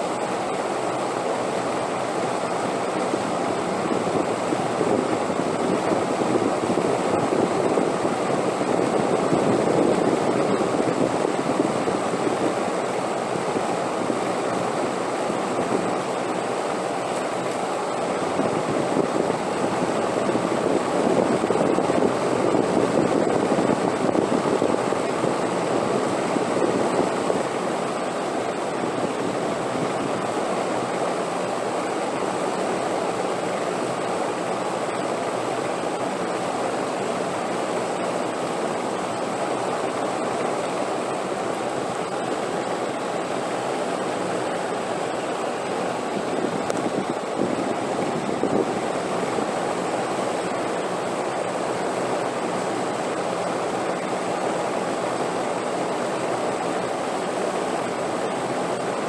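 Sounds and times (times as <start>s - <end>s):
steady rushing wind: 0.0s - 59.0s.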